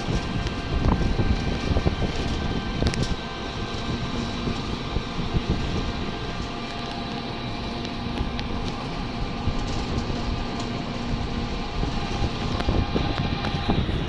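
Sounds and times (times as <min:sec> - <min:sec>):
faint constant whine: 0:00.0 - 0:14.0
moving vehicle rumble: 0:00.0 - 0:14.0.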